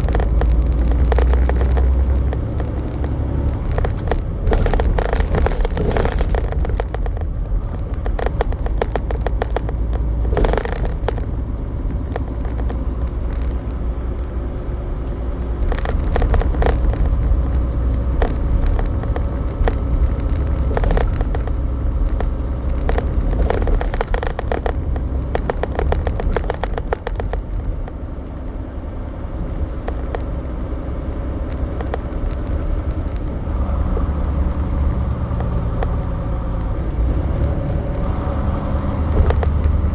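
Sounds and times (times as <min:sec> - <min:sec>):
rattles and knocks: 0:00.0 - 0:14.4, 0:15.0 - 0:28.7, 0:31.5 - 0:39.9
truck diesel engine rumbling: 0:00.0 - 0:39.9.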